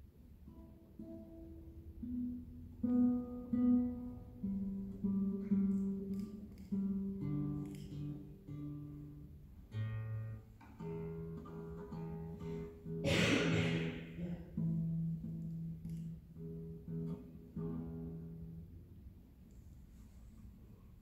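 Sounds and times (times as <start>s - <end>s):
classical guitar fingerpicking: 0.0s - 21.0s.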